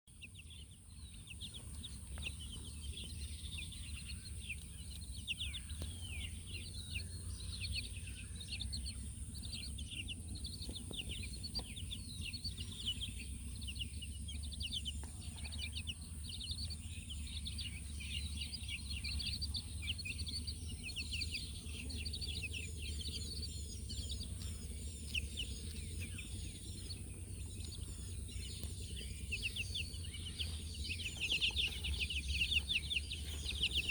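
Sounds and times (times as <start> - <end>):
chicks peeping: 0.1 - 33.9
steady low hum: 0.1 - 33.9.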